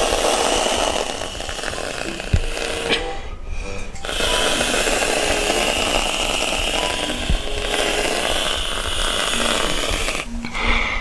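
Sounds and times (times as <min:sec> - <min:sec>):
aerosol cream can hissing: 0:00.0 - 0:03.0, 0:04.0 - 0:10.3.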